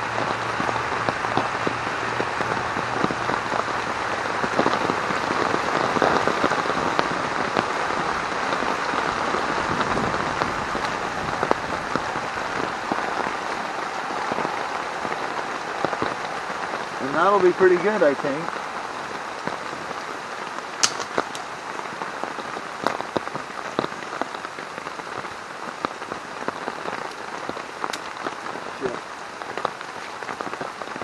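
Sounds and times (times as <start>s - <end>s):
heavy rain on tarp: 0.0s - 31.0s.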